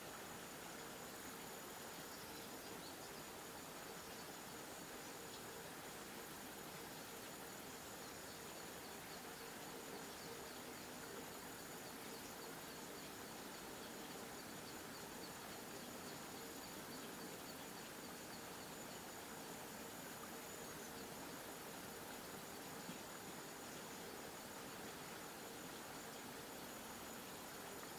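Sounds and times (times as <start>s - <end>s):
outdoor background hiss: 0.0s - 27.9s.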